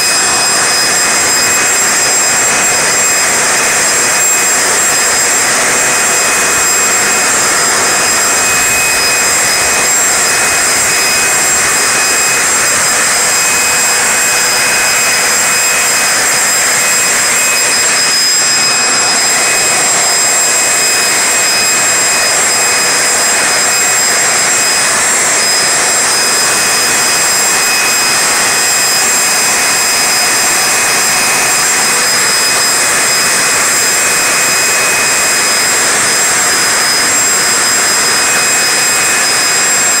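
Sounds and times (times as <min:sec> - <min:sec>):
leaf blower running: 0:00.0 - 0:40.0.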